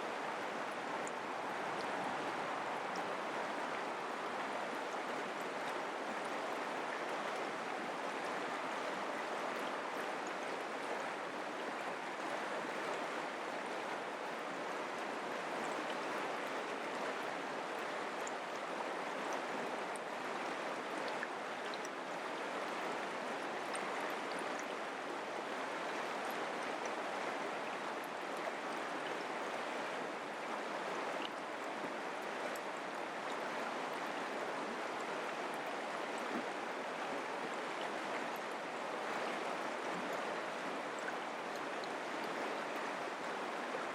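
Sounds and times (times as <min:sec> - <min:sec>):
creek flowing: 0:00.0 - 0:43.9.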